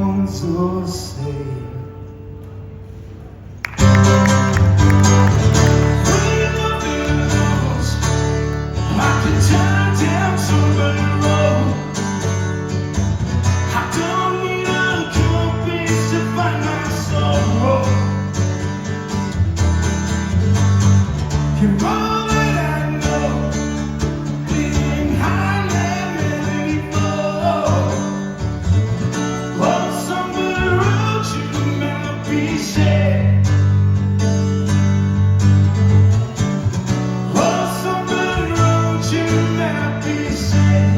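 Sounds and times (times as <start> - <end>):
acoustic guitars playing: 0.0 - 40.9.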